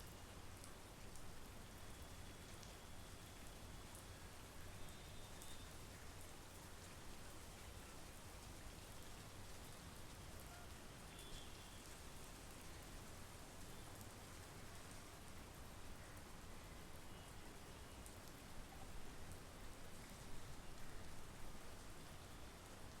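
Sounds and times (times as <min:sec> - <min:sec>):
faint steady rain: 0:00.0 - 0:23.0.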